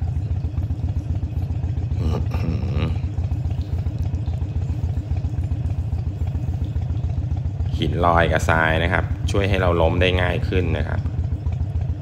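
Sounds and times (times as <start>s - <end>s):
motorcycle engine low pulsing: 0.0s - 12.0s.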